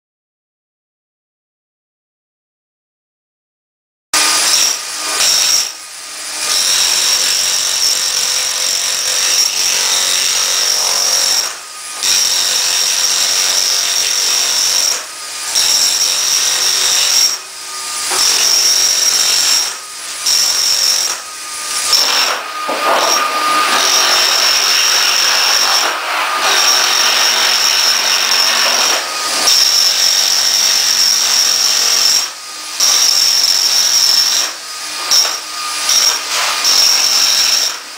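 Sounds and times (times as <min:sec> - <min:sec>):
power tool breaking tiles: 0:04.2 - 0:37.9.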